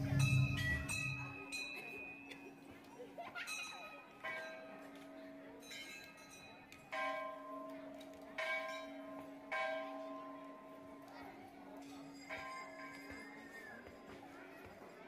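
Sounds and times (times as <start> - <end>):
temple bell ringing: 0.0 - 2.7, 3.4 - 14.0.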